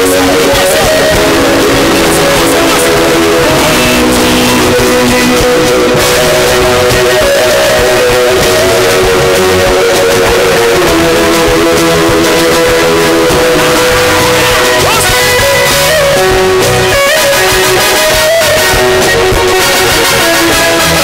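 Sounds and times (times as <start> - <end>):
church praise music: 0.0 - 21.0
guitar: 0.0 - 21.0.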